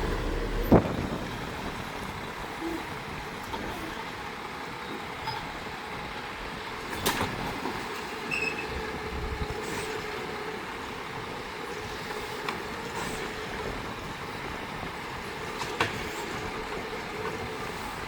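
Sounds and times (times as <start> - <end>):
garbage truck running: 0.0 - 18.0.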